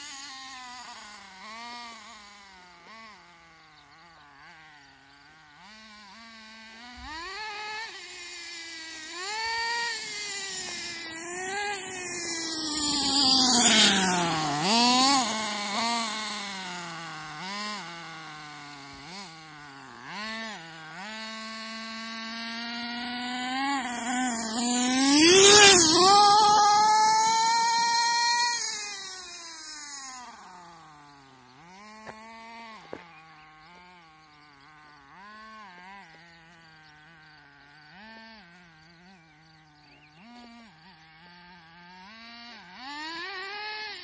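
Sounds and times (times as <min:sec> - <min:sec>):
rc car nitro engine revving: 0:00.0 - 0:44.0.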